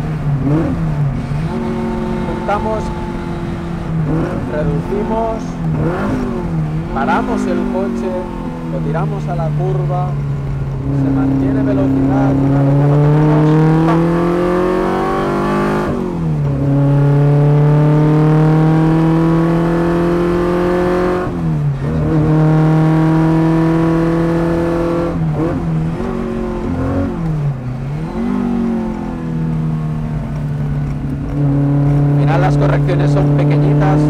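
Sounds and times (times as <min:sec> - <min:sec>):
racing car engine at full throttle: 0:00.0 - 0:34.0.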